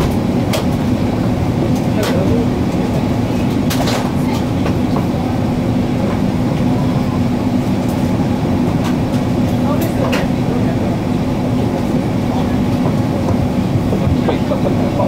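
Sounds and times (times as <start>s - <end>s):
aircraft cabin roar: 0.0s - 15.0s
steady hum: 0.0s - 15.0s.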